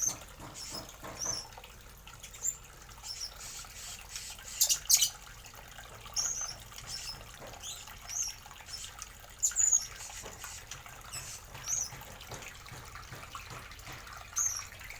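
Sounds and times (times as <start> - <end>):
cage birds chirping: 0.0 - 5.4, 6.0 - 14.9.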